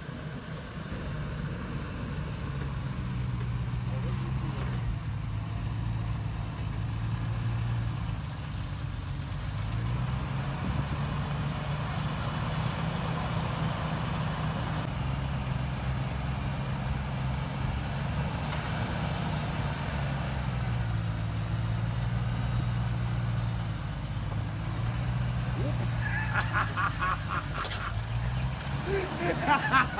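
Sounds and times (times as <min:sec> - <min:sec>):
truck engine running: 0:00.0 - 0:29.9
tyre and road noise: 0:00.0 - 0:29.9.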